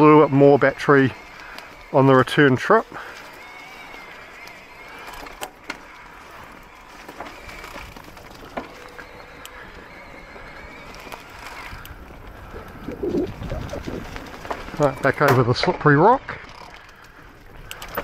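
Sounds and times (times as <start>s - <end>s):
bike knocking and rattling: 0.0s - 18.0s
bike tyres rolling on dirt trail: 0.0s - 18.0s.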